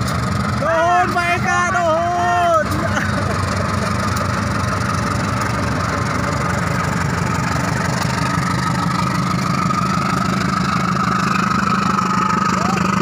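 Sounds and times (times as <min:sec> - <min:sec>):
diesel locomotive engine drone: 0:00.0 - 0:13.0.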